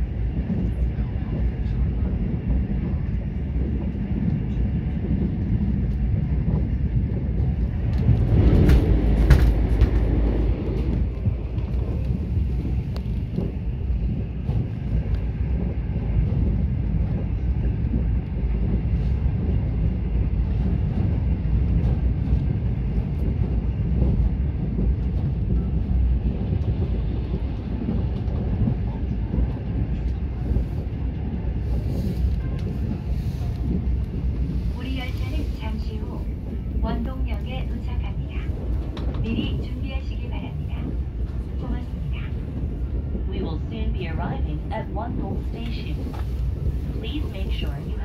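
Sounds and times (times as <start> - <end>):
train rumble from inside carriage: 0.0 - 48.0.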